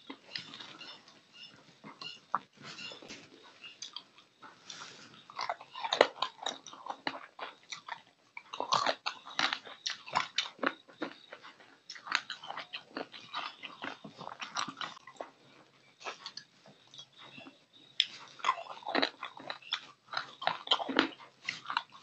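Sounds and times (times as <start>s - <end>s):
man chewing wetly: 0.0s - 22.0s.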